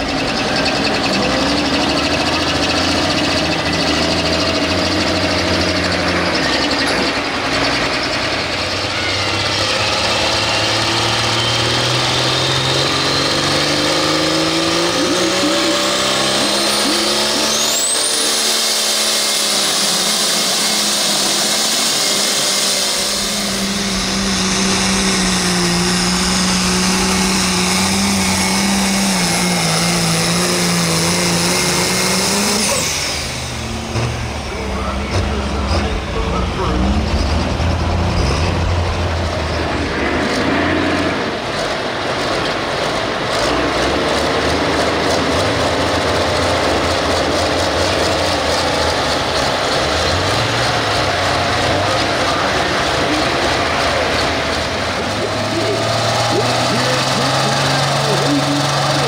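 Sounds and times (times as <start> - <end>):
turbo whine: 0.0 - 43.6, 44.8 - 59.0
diesel engine under load: 0.0 - 59.0.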